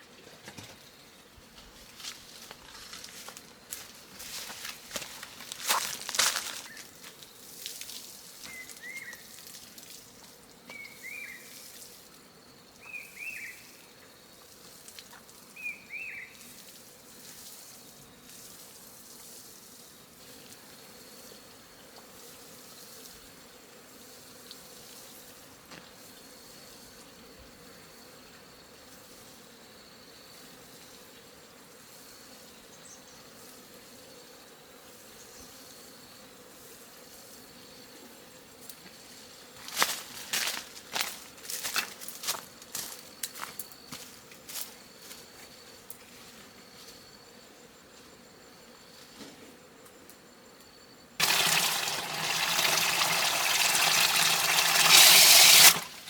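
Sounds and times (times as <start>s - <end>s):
insects buzzing faintly: 0.0s - 56.0s.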